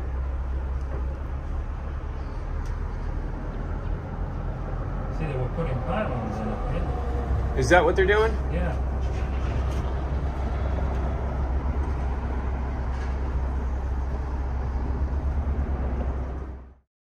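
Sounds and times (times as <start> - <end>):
diesel engine drone: 0.0 - 16.8.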